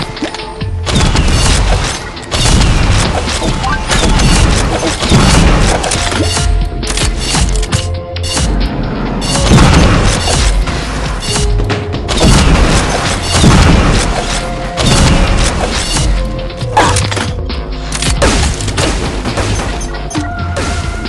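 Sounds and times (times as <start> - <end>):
music playing: 0.0 - 21.0.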